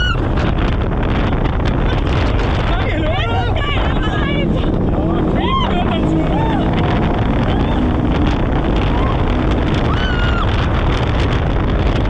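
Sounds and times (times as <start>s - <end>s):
offroad vehicle engine running: 0.0s - 12.0s
wind noise on microphone: 0.0s - 12.0s.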